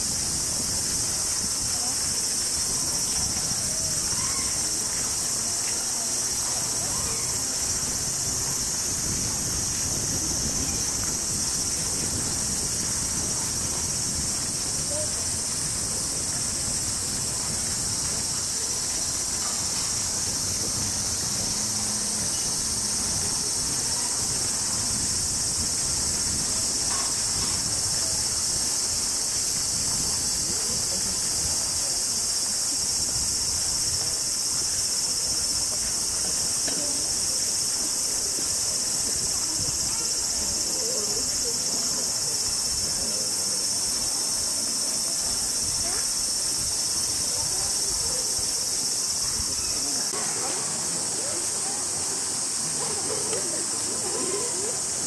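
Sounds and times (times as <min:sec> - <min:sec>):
cicadas buzzing: 0:00.0 - 0:55.0
faint voices: 0:00.0 - 0:55.0.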